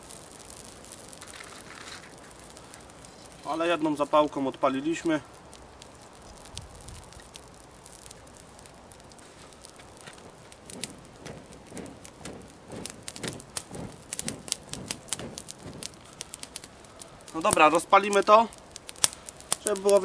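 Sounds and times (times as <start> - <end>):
dry grass burning with crackles: 0.0 - 20.0.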